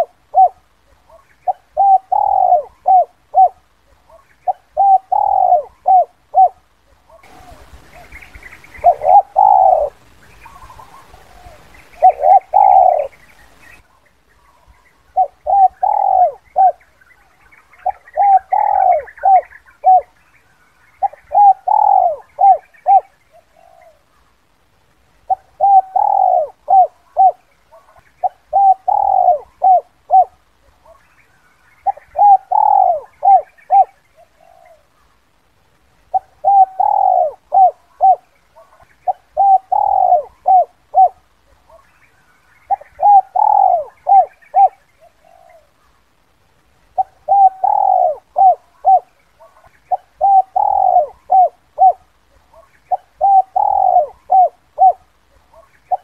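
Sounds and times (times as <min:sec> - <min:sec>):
dove cooing: 0:00.0 - 0:13.6, 0:14.4 - 0:20.2, 0:21.0 - 0:24.1, 0:25.2 - 0:31.1, 0:31.8 - 0:35.0, 0:36.1 - 0:41.9, 0:42.6 - 0:45.9, 0:46.9 - 0:56.0.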